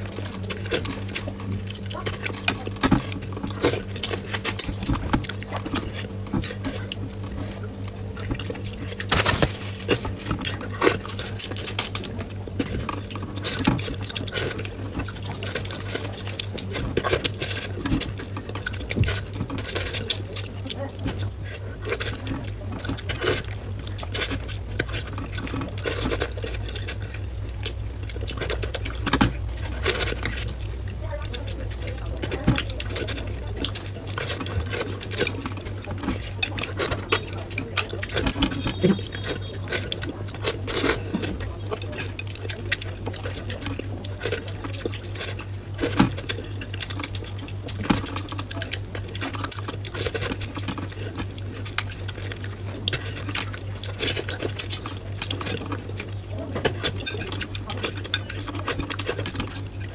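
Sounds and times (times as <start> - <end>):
steady low hum: 0.0 - 59.9
wet chewing and mouth noises: 0.0 - 59.9.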